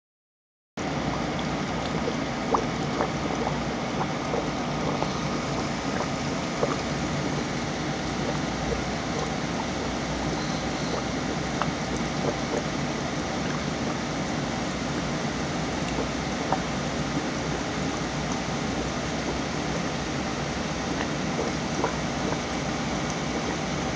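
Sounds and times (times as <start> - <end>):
aquarium filter water rushing: 0.8 - 23.9.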